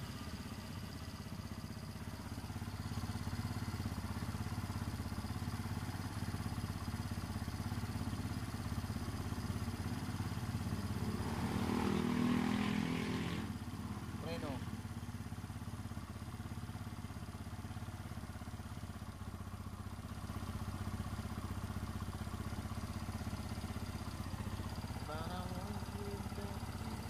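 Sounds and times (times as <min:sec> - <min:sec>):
motorcycle engine idling: 0:00.0 - 0:12.0, 0:13.4 - 0:27.0.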